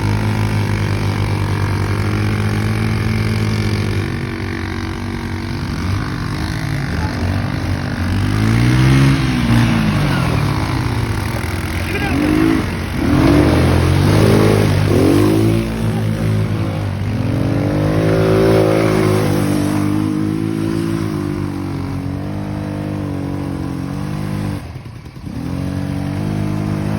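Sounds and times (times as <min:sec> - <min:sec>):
atv engine revving: 0:00.0 - 0:26.9.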